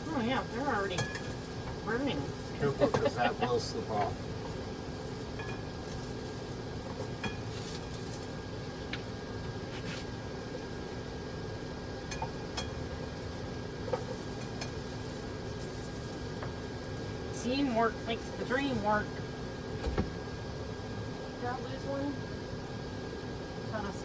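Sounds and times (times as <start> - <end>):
steady hum and hiss: 0.0 - 24.0.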